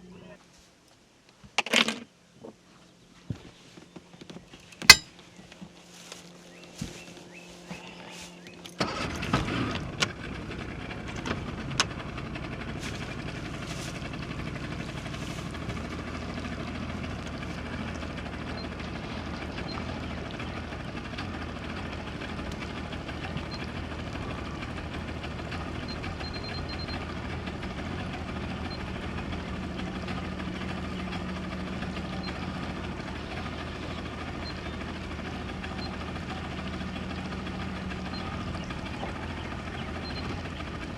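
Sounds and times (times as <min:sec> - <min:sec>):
engine running: 0:02.6 - 0:40.9.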